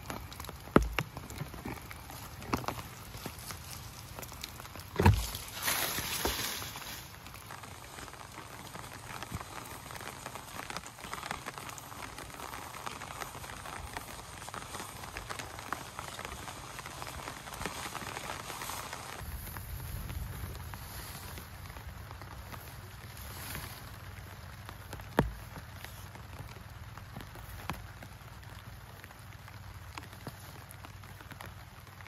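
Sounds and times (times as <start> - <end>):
rustling noise: 0.0 - 28.0
steady rain falling: 0.0 - 32.0.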